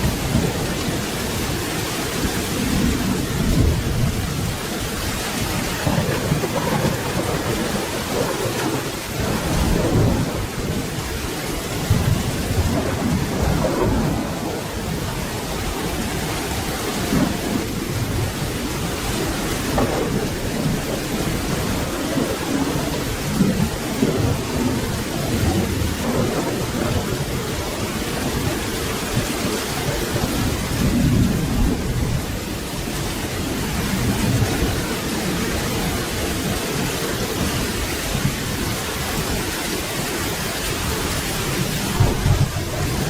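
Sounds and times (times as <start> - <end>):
low rolling thunder: 0.0 - 43.0
steady rainfall: 0.0 - 43.0.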